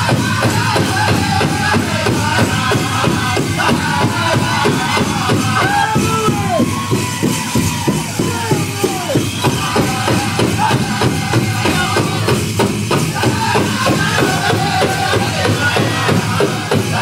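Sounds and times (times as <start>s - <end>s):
drummers striking large drum: 0.0s - 17.0s
people singing in high voices: 0.0s - 17.0s.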